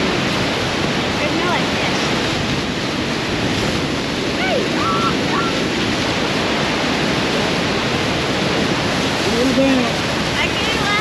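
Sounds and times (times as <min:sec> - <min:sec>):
waterfall rushing: 0:00.0 - 0:11.0
wind buffeting microphone: 0:00.0 - 0:11.0.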